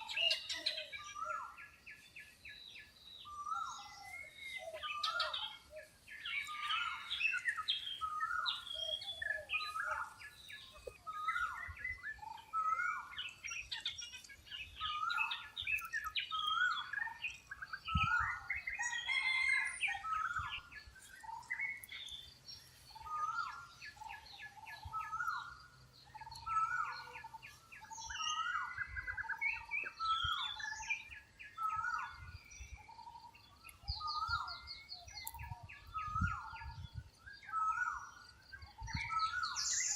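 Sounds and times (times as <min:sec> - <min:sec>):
birds calling: 0:00.0 - 0:39.9
high bird chirps: 0:00.0 - 0:39.9.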